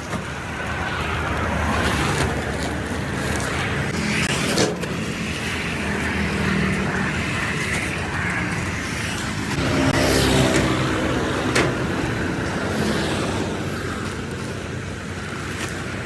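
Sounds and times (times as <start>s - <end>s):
vehicle passing: 0.0s - 15.0s
vehicle engines running: 0.0s - 16.0s.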